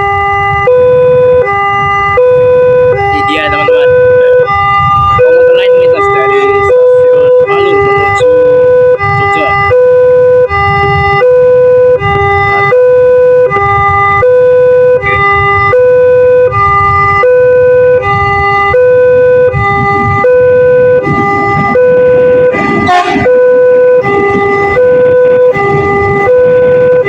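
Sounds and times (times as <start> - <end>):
noisy burst: 0.0 - 27.0
two-tone warning siren: 0.0 - 27.0.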